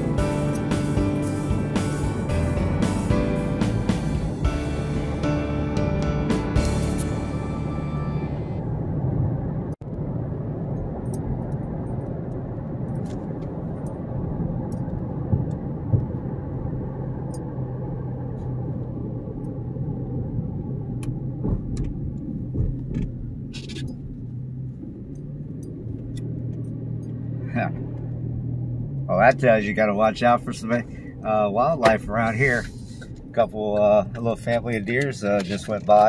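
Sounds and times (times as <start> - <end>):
engine and road noise rumble: 0.0 - 36.0.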